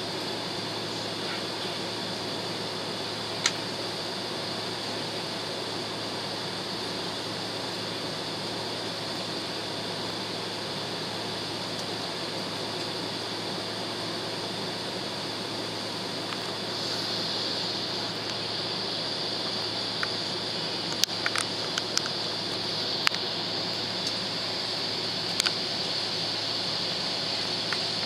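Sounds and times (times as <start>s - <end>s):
cabin air hissing: 0.0s - 28.0s
constant low hum: 0.0s - 28.0s
jet engines at low thrust: 0.0s - 28.0s.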